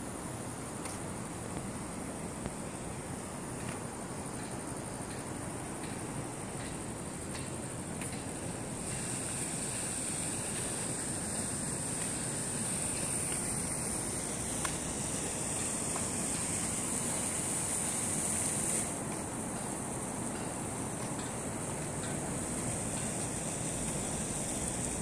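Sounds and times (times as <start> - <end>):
high-pitched insect trill: 0.0 - 25.0
outdoor background noise: 0.0 - 25.0.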